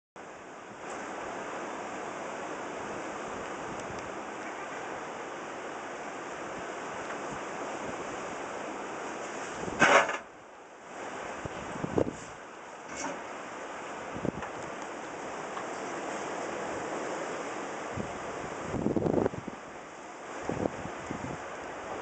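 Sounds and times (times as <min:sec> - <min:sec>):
rough sea waves: 0:00.2 - 0:22.0
strong wind: 0:00.2 - 0:22.0.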